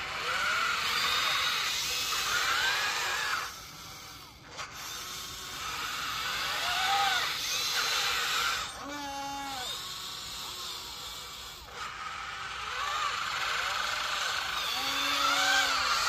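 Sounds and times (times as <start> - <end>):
electric motors whining: 0.0 - 16.0.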